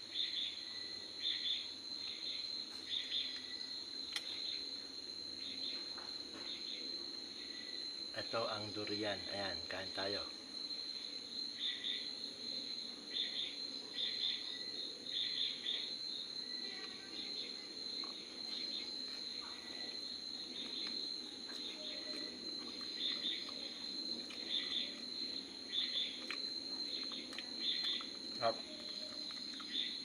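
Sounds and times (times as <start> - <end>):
insects chirping: 0.0 - 30.0
pulsing insect chirps: 0.0 - 30.0.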